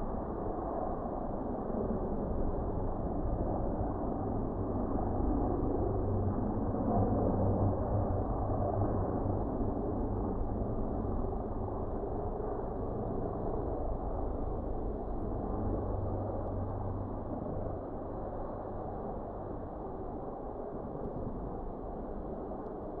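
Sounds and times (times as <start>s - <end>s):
helicopter rotor drone: 0.0s - 23.0s.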